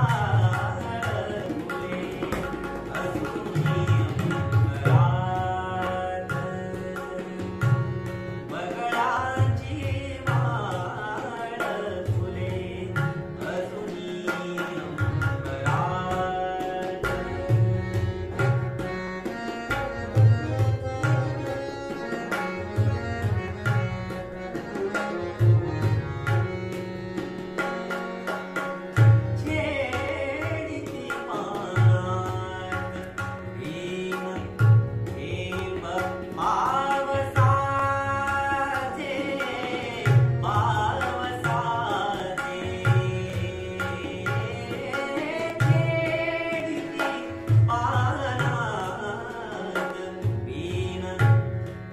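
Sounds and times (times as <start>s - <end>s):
man singing: 0.0s - 18.8s, 27.6s - 51.8s
harmonium: 0.0s - 51.9s
tabla drumming: 0.0s - 51.9s.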